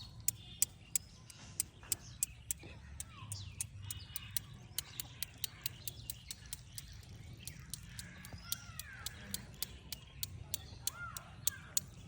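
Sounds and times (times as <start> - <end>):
birds chirping: 0.0 - 12.0
fast regular ticking clicks: 0.0 - 12.0.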